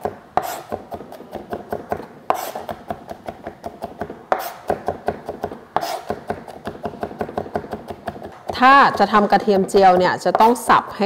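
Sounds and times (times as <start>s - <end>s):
knife chopping on cutting board: 0.0s - 10.6s.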